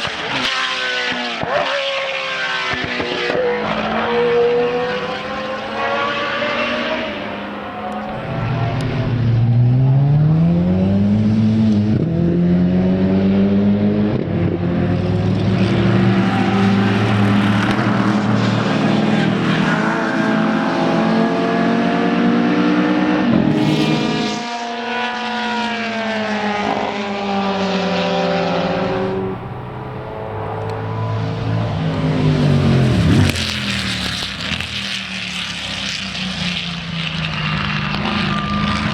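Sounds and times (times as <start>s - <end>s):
racing car engine revving: 0.0s - 38.9s.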